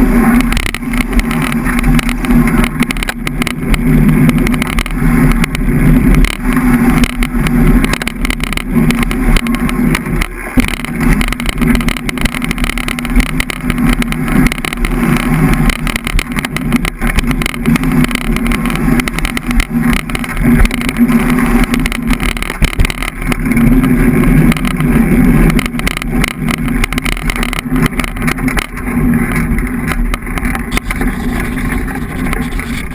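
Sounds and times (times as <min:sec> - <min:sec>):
bike knocks and rattles: 0:00.0 - 0:32.9
bike tyres rumbling on dirt: 0:00.0 - 0:32.9.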